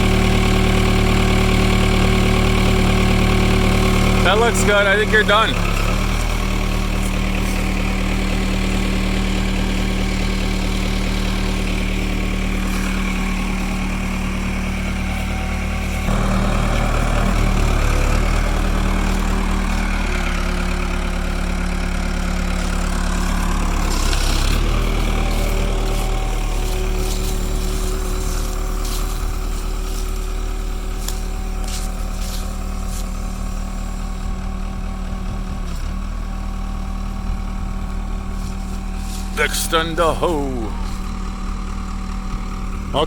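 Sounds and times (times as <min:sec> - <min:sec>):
backhoe diesel engine running: 0:00.0 - 0:43.0.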